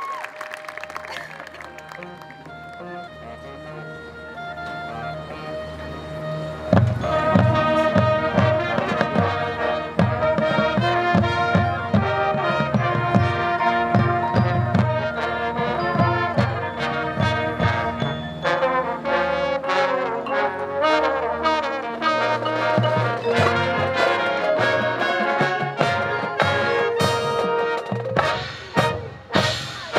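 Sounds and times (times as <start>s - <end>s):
woodwinds: 0.0s - 29.9s
brass chords: 1.0s - 29.9s.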